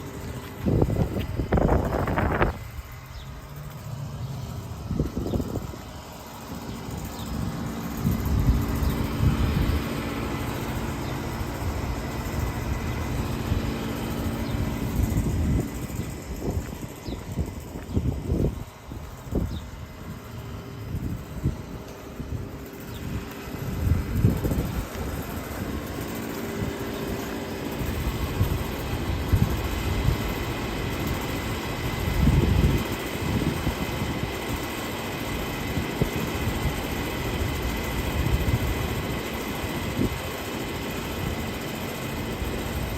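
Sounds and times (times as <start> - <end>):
air conditioner hum: 0.0 - 42.9.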